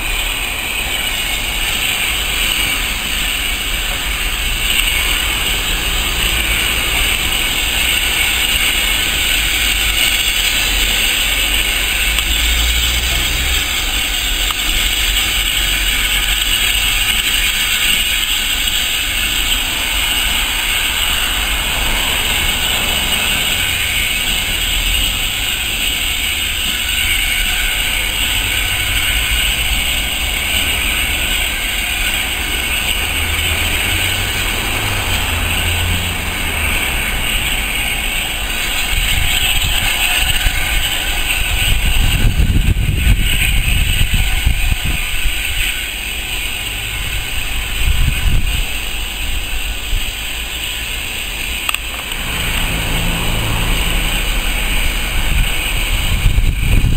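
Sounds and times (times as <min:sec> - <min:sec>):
steam train rumbling and hissing: 0:00.0 - 0:56.9.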